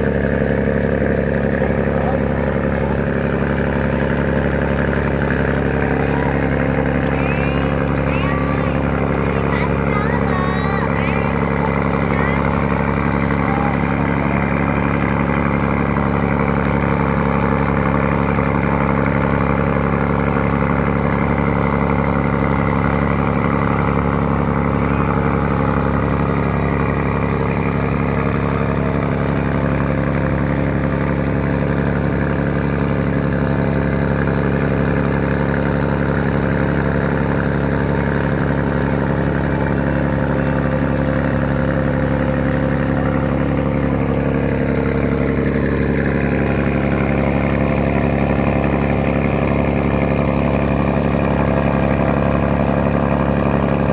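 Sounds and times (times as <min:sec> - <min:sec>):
engine humming steadily: 0:00.0 - 0:53.9.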